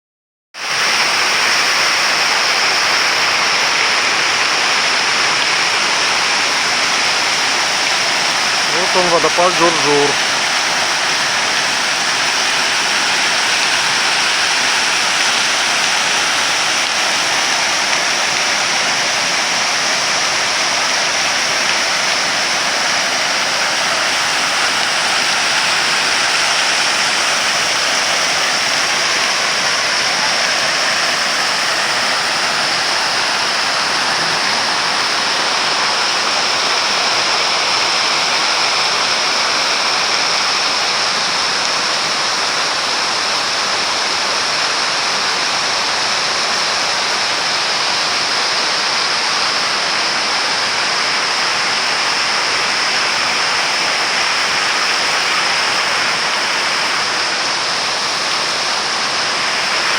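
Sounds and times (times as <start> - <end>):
waterfall rushing: 0.6 - 59.9.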